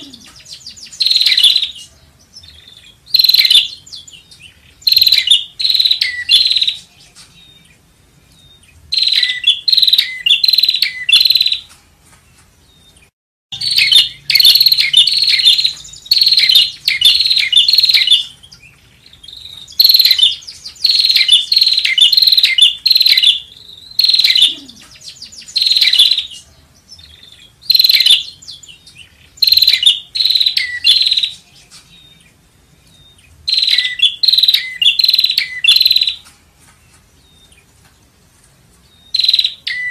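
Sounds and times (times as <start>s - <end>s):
bird rapid high chirping: 0.0s - 11.7s, 12.6s - 36.3s, 38.8s - 39.9s.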